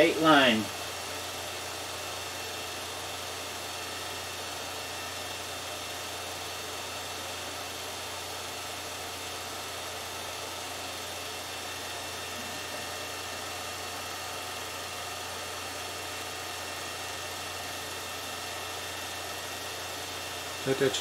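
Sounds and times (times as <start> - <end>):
projector motor hum: 0.0 - 21.0.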